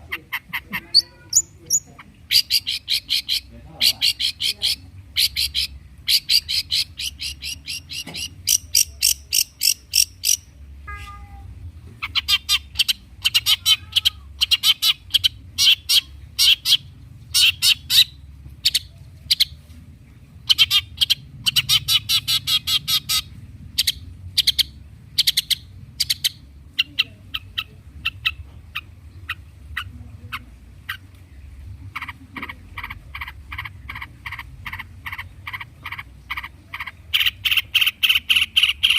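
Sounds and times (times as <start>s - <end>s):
bird chattering song: 0.0s - 10.6s, 12.0s - 38.9s.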